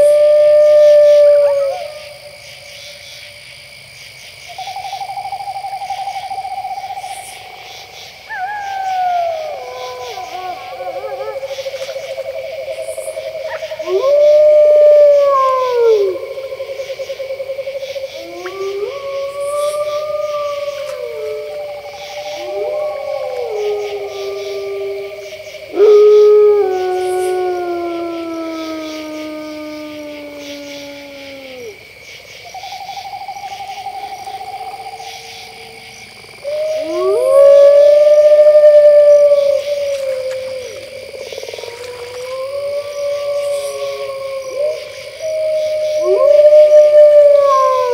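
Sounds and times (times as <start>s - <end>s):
wolf howling: 0.0s - 2.2s, 8.2s - 12.4s, 13.0s - 17.0s, 17.6s - 31.9s, 33.8s - 47.9s
crickets chirring: 0.0s - 47.9s.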